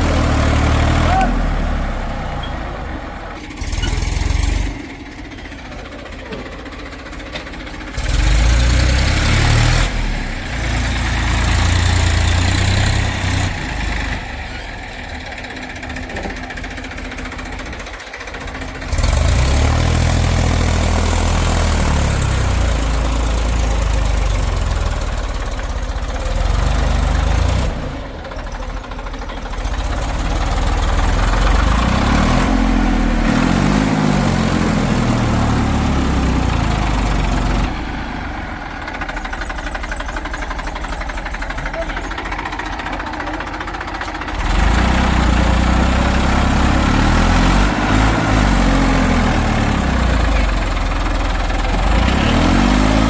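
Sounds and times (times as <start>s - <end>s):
heavy diesel engine revving: 0.0s - 53.0s.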